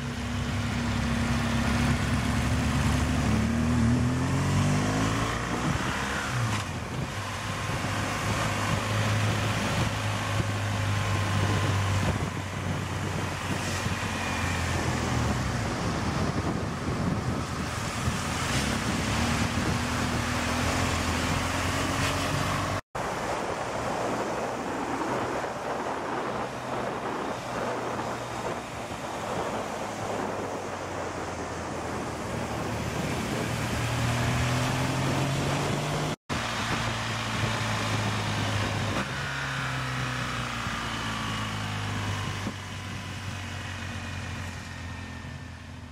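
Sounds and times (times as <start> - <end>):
wind noise on microphone: 0.0 - 45.9
motorcycle engine running: 6.6 - 45.9.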